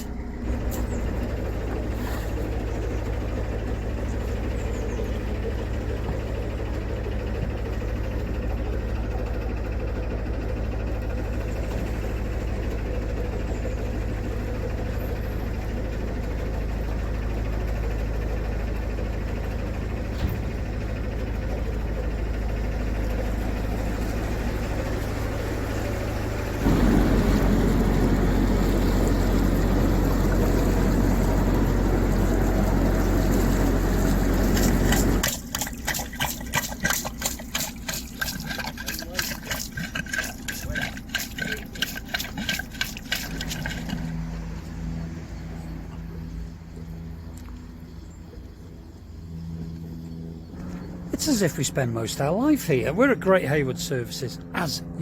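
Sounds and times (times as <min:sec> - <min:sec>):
boat engine running and revving: 0:00.0 - 0:55.0.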